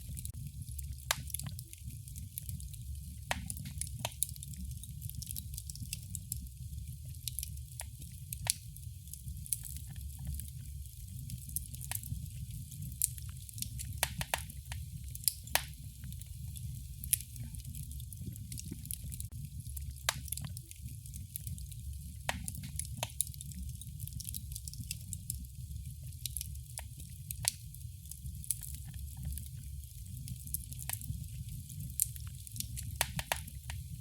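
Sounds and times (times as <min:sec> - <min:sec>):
low rumble of burning: 0:00.0 - 0:34.0
wood fire pops and snaps: 0:00.0 - 0:34.0.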